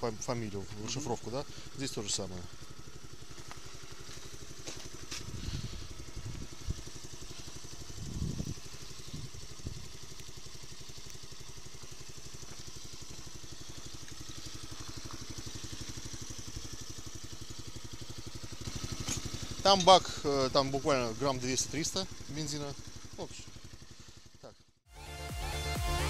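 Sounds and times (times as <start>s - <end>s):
small engine idling: 0.0s - 26.0s.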